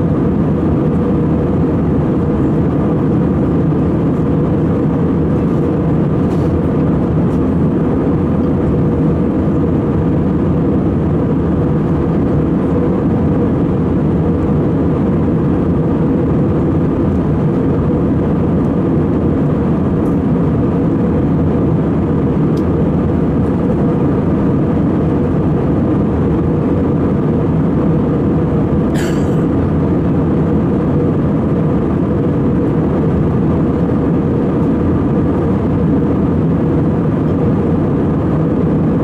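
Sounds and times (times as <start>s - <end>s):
air rushing along fuselage: 0.0s - 39.0s
airliner cabin engine drone: 0.0s - 39.0s.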